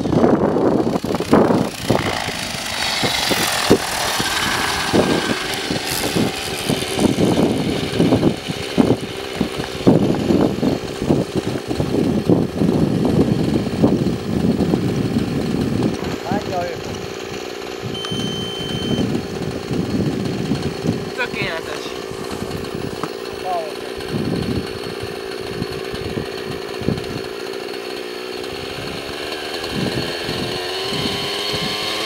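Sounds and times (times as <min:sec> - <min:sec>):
helicopter rotor spinning: 0:00.0 - 0:32.0
model helicopter engine idling: 0:00.0 - 0:32.0.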